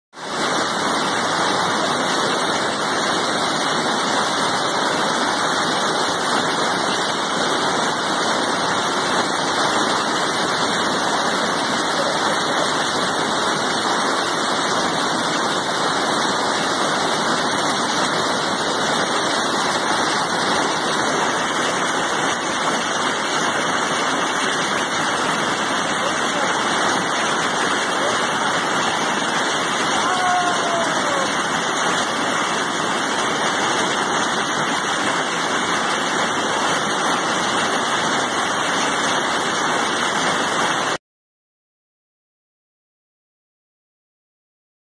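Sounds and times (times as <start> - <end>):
rushing river rapids: 0.2 - 41.0.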